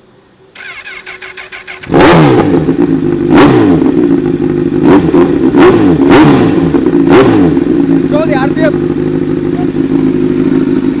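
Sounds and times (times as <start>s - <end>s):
motorcycle engine revving: 0.6s - 11.0s.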